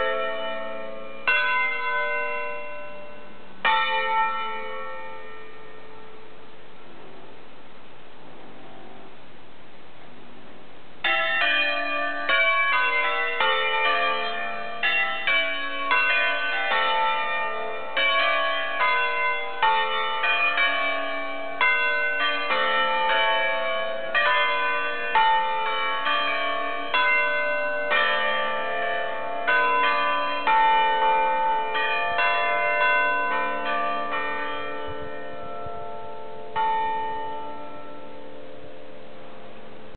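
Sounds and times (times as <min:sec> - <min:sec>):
church bells ringing: 0:00.0 - 0:07.5, 0:11.0 - 0:39.9.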